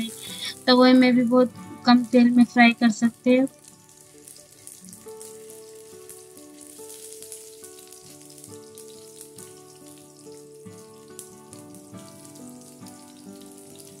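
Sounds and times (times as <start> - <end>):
food sizzling in oil: 0.0 - 14.0
soft background music: 0.0 - 14.0.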